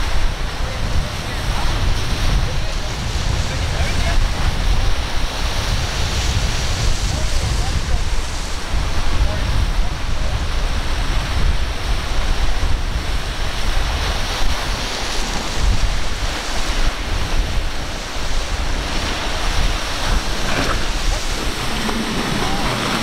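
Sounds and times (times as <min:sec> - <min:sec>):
surf and breaking waves: 0:00.0 - 0:23.0
wind buffeting microphone: 0:00.0 - 0:23.0.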